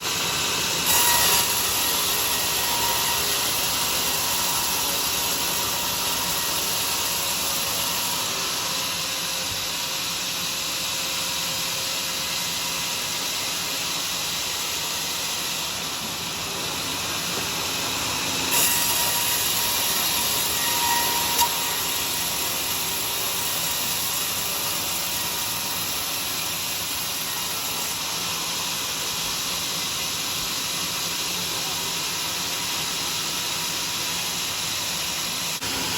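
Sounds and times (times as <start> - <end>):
sawmill sawing a log: 0.1 - 35.9.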